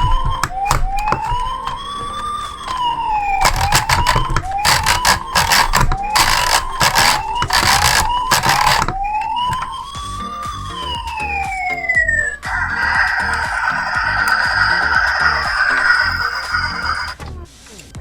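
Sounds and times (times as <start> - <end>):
siren wailing: 0.0 - 17.2.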